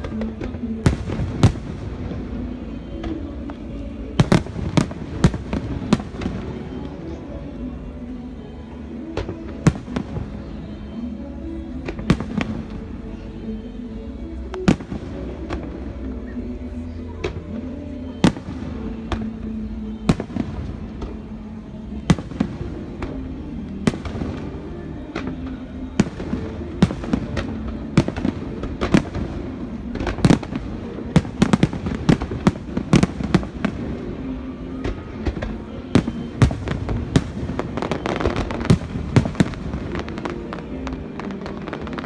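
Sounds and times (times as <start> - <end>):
fireworks bursting: 0.0 - 7.2, 9.1 - 11.1, 11.8 - 13.2, 14.4 - 42.0.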